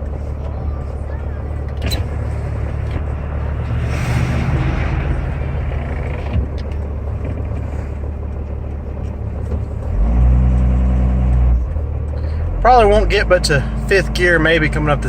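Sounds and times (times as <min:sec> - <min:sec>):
diesel engine under heavy load: 0:00.0 - 0:15.0.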